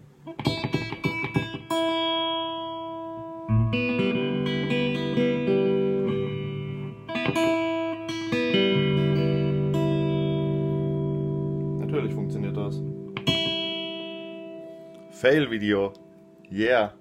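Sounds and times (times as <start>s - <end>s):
electric guitar notes and chords: 0.0s - 16.6s.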